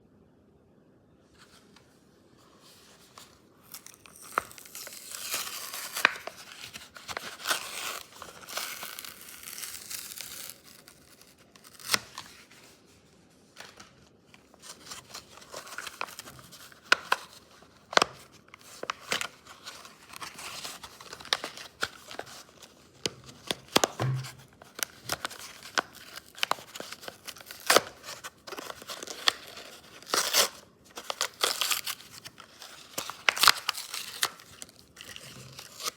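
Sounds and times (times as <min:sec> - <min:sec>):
packaging crinkling and tearing: 0:03.0 - 0:12.8, 0:13.6 - 0:35.9.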